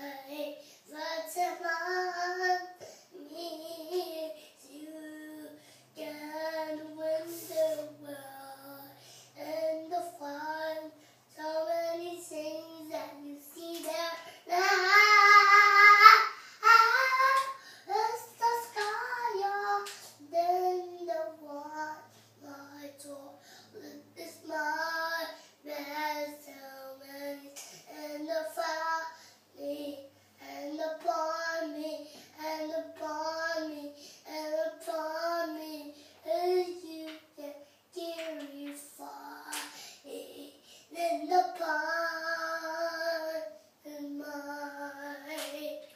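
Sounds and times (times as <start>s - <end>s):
child singing: 0.0s - 45.9s.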